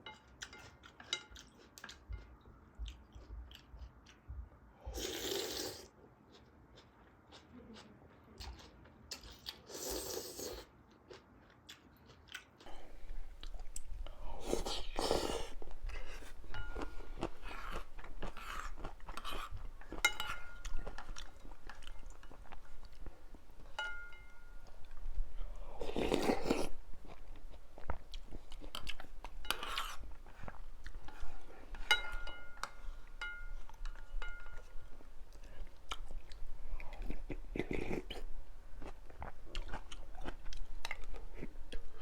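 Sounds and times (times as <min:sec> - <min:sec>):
wet chewing and crunching: 0:00.4 - 0:04.3, 0:06.3 - 0:42.0.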